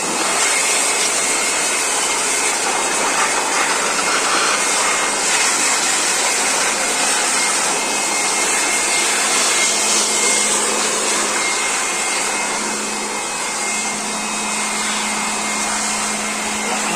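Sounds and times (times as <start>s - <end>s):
electric air blower running: 0.0s - 16.9s.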